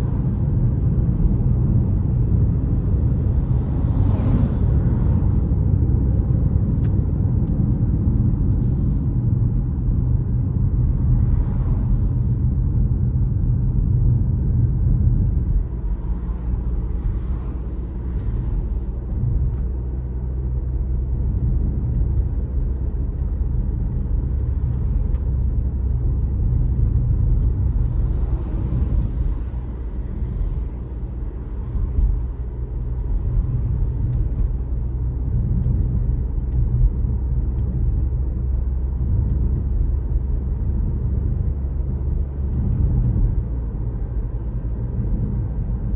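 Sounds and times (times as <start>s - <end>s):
car engine and tyres rumbling: 0.0s - 45.9s.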